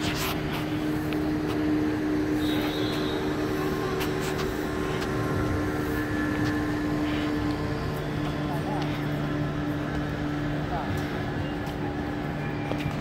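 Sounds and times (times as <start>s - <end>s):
engine hum: 0.0s - 13.0s
outdoor background noise: 0.0s - 13.0s.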